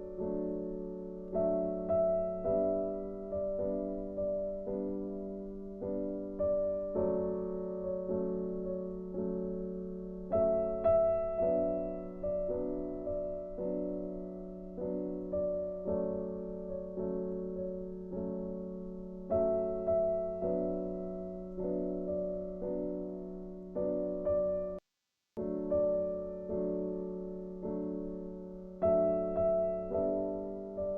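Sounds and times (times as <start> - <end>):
soft slow piano music: 0.0 - 24.8, 25.4 - 30.9.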